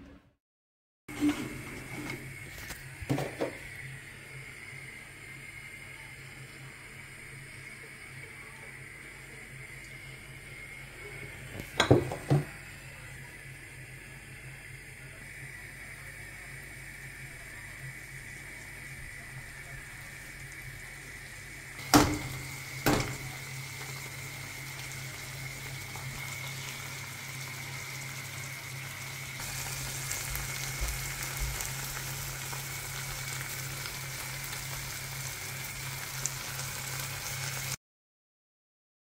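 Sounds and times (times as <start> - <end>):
food sizzling in a pan: 1.1 - 37.8.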